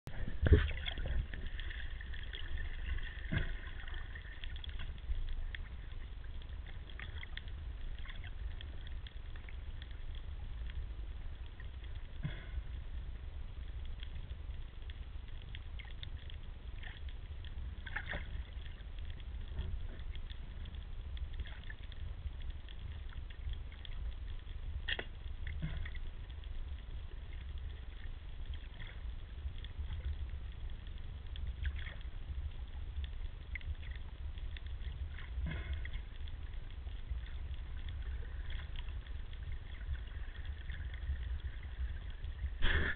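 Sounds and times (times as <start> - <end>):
muffled underwater rumble: 0.1 - 42.9
small clicks and crackles: 0.1 - 42.9.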